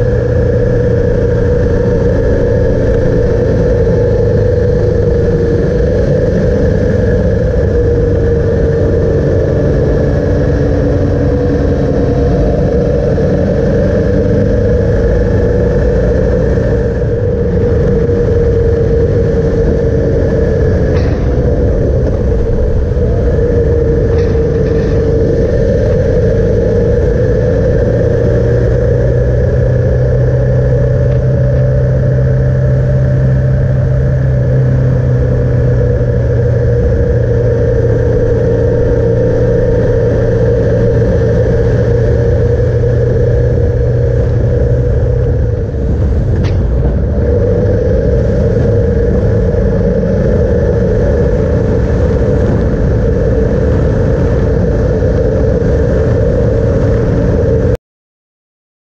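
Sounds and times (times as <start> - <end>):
road and wind noise: 0.0 - 57.8
vehicle engine running: 0.0 - 57.8.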